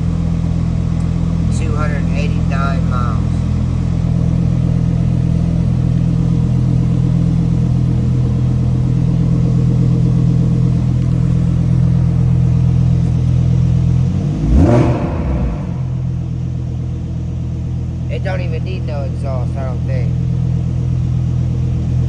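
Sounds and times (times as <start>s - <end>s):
car engine idling: 0.0s - 22.0s
car engine revving: 0.0s - 22.0s.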